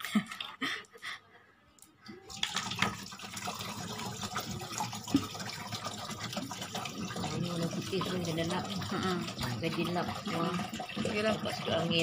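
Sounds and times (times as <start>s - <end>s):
water pouring into tank: 2.1s - 12.0s.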